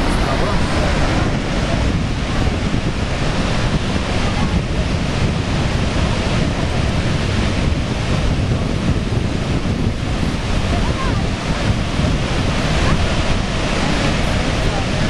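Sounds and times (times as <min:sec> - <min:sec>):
churning water: 0:00.0 - 0:15.0
waterfall rushing: 0:00.0 - 0:15.0
wind buffeting microphone: 0:00.0 - 0:15.0.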